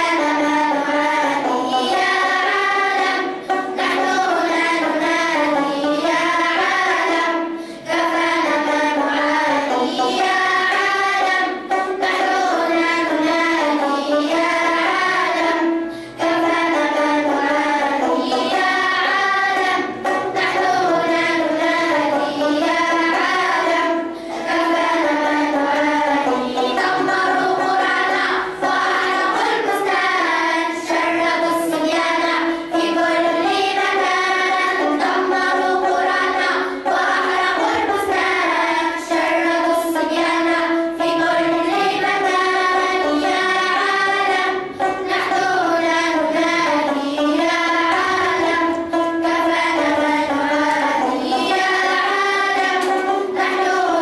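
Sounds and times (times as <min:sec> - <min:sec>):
banjo strumming: 0:00.0 - 0:54.0
children singing together: 0:00.0 - 0:54.0.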